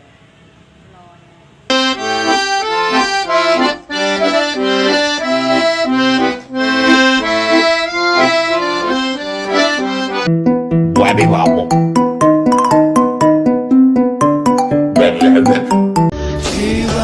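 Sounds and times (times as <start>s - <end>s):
background music with quick melody: 1.7s - 17.0s.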